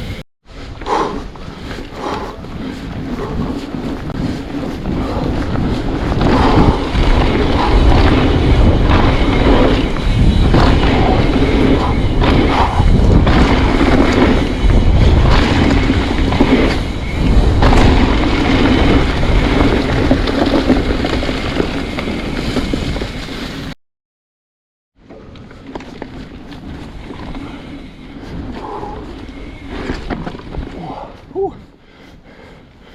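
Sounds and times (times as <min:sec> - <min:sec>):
wind buffeting microphone: 0:00.0 - 0:23.7, 0:25.1 - 0:32.9
bike tyre roar: 0:00.0 - 0:23.8, 0:25.0 - 0:32.9
bike rattles and knocks: 0:01.4 - 0:23.7, 0:25.0 - 0:31.3.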